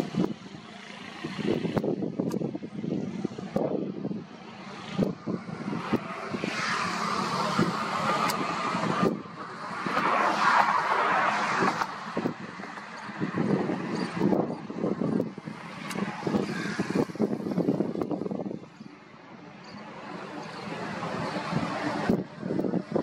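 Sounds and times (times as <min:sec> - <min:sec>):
steady outdoor rumble: 0:00.0 - 0:23.0
vehicles passing by: 0:00.0 - 0:23.0.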